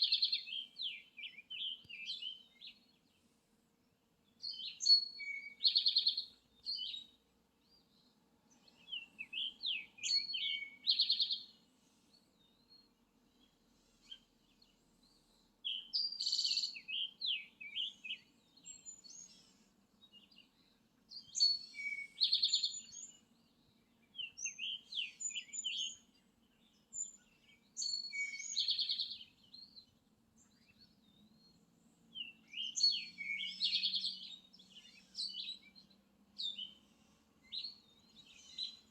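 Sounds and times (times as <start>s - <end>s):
songbird singing with trill: 0.0s - 3.2s, 4.2s - 11.6s, 12.2s - 38.9s.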